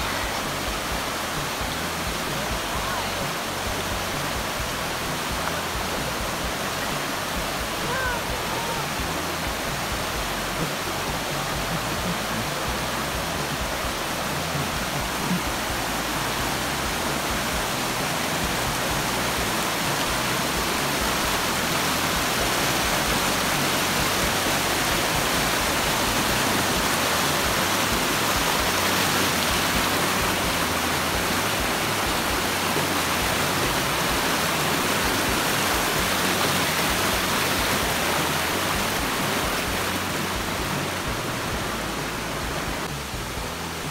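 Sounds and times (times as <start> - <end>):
creek rushing over rocks: 0.0 - 43.9.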